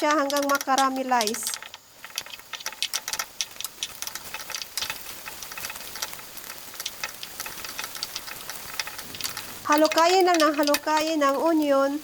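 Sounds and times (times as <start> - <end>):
oil crackling and popping: 0.0 - 12.0
onions sizzling in oil: 0.0 - 12.0.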